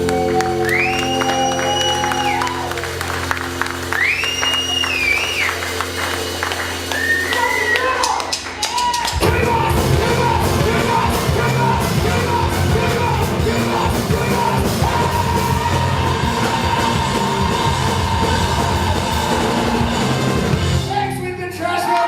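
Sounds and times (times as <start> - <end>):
live rock band playing: 0.0 - 21.2.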